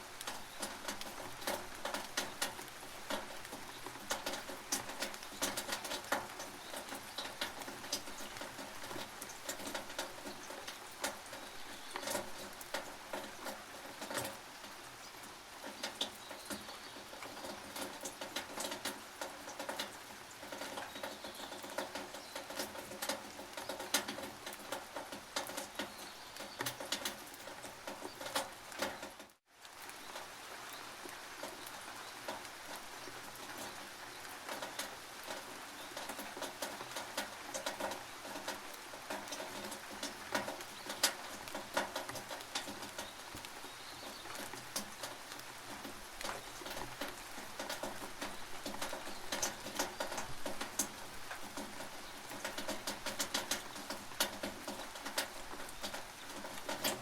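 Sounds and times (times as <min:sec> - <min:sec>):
rain pattering on a tin roof: 0:00.0 - 0:57.0.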